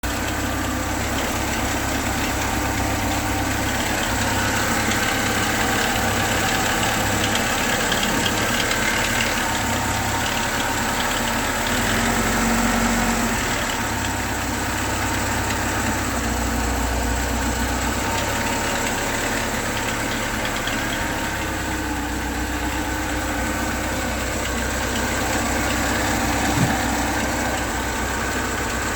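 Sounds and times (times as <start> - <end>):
car engine idling with knock: 0.0 - 28.9.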